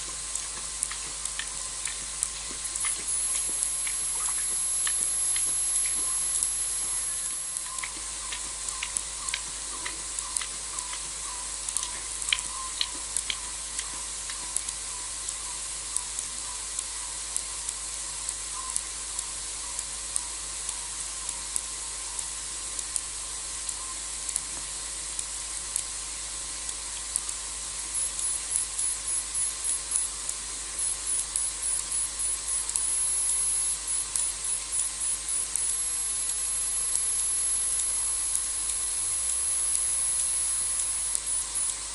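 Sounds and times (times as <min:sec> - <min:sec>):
steady high hiss: 0:00.0 - 0:41.9.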